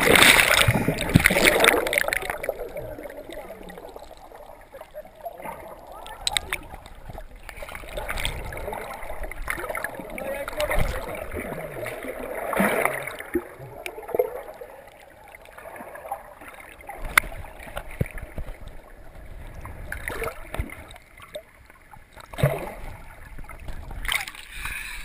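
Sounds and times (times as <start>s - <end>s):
underwater sloshing and gurgling: 0.0s - 25.0s.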